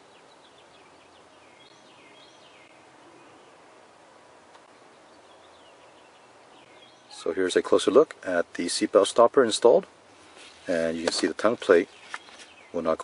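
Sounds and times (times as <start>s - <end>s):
faint background noise: 0.0s - 13.0s
small birds chirping: 0.0s - 13.0s.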